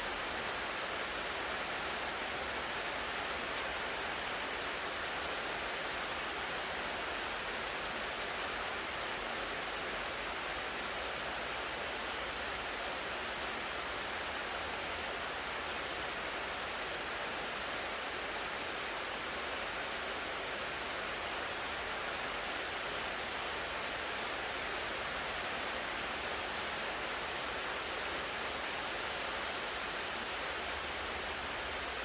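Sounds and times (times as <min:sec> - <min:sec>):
steady rain hiss: 0:00.0 - 0:32.0.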